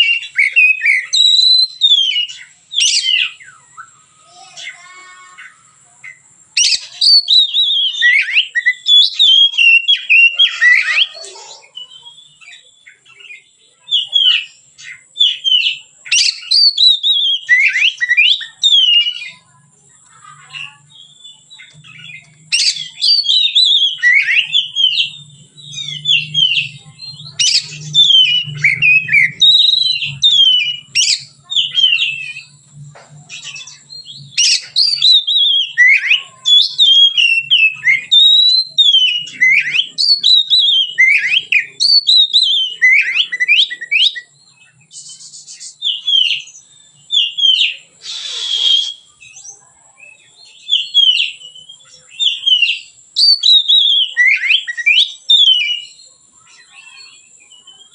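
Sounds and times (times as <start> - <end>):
bird singing whistled phrases: 0.0 - 4.8, 6.0 - 19.5, 20.3 - 32.6, 33.3 - 57.9.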